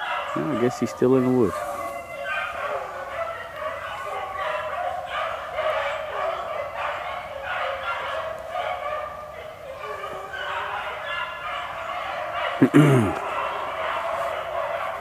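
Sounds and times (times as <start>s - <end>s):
beagles baying: 0.0s - 15.0s.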